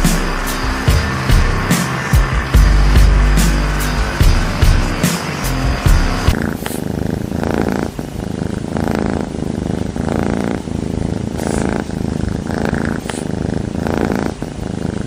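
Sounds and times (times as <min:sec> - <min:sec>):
cat purring loudly: 0:00.0 - 0:15.0.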